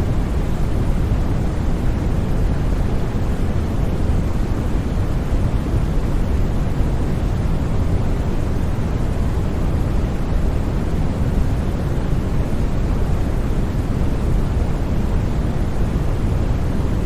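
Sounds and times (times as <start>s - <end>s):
deep white noise rush: 0.0s - 17.0s.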